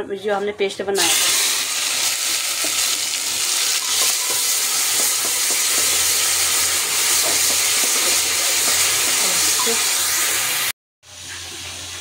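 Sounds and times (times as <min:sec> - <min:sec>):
paste sizzling in hot oil: 0:01.0 - 0:12.0.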